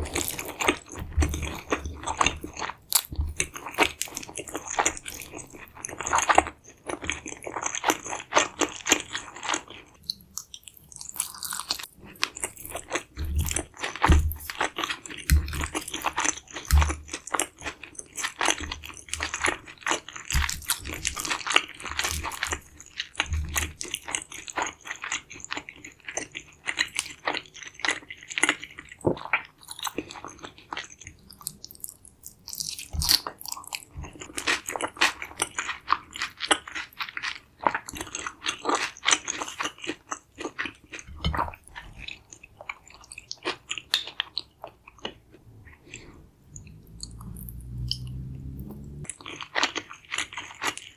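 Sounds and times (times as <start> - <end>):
crunchy food chewing: 0.0 - 50.9.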